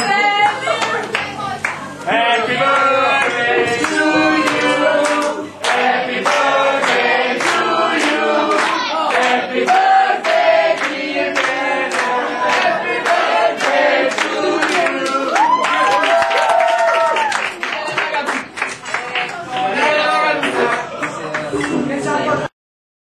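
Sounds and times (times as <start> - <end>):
group singing a birthday song: 0.0 - 16.2, 17.6 - 22.5
people clapping along: 0.7 - 22.0.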